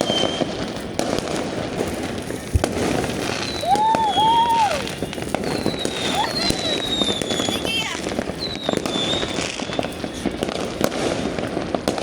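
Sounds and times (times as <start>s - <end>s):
whistling firework tones: 0.0s - 0.8s, 1.8s - 11.5s
firework bangs: 0.0s - 12.0s
fireworks crackling: 0.0s - 12.0s.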